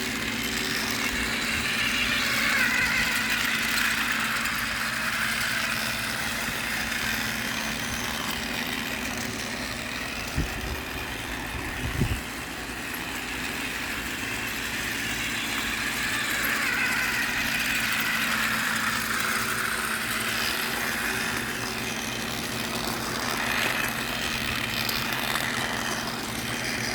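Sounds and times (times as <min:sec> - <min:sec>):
engine running: 0:00.0 - 0:26.9.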